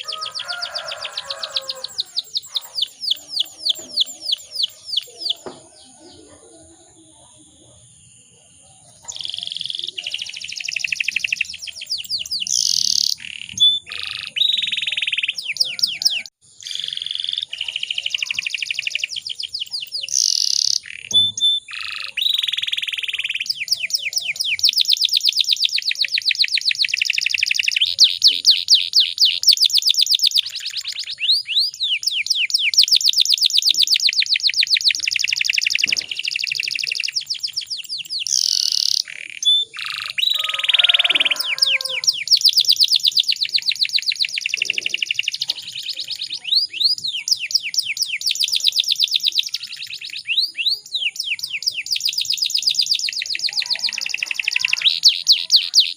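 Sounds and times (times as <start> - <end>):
canary singing trills and chirps: 0.0 - 55.9.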